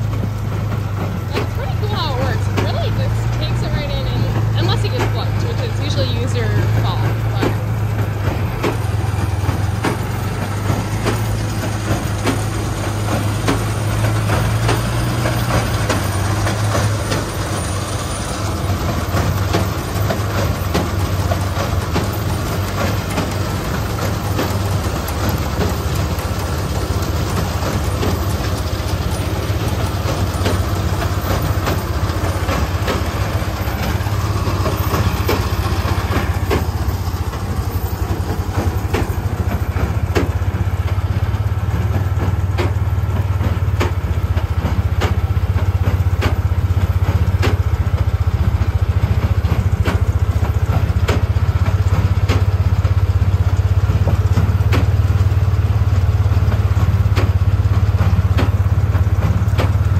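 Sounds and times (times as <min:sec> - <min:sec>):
baler clattering and knocking: 0:00.0 - 0:59.9
tractor engine drone: 0:00.0 - 0:59.9.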